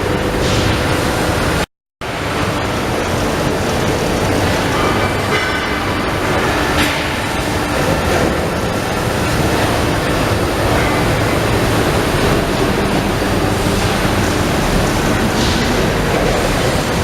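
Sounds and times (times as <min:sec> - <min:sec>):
press brake machine running: 0:00.0 - 0:17.0.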